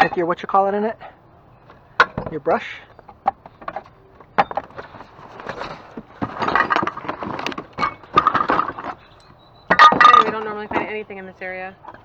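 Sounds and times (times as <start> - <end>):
items knocking and clattering: 0.0 - 0.5, 1.6 - 12.0.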